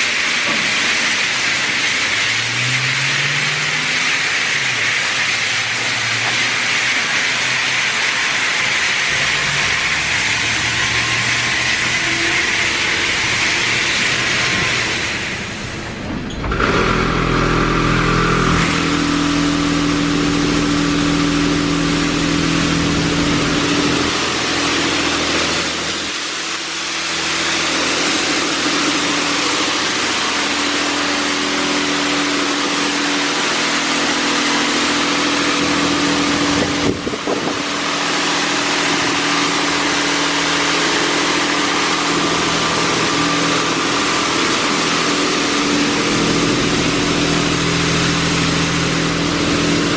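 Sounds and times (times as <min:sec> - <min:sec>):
high pressure water spray: 0:00.0 - 0:15.9, 0:16.6 - 0:49.9
pump motor hum: 0:00.0 - 0:49.9.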